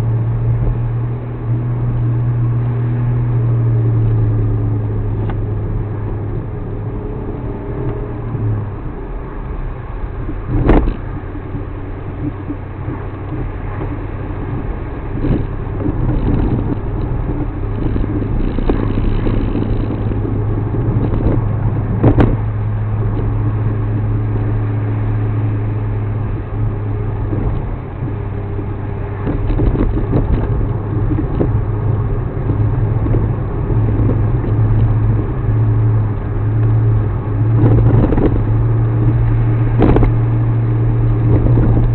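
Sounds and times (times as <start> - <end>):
car engine low hum: 0.0 - 41.9.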